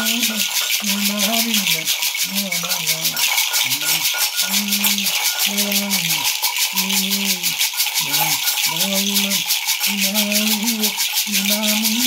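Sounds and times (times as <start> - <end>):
gourd rattles shaken: 0.0 - 12.0
jingling metal bells: 0.0 - 12.0
man chanting held notes: 0.0 - 12.0.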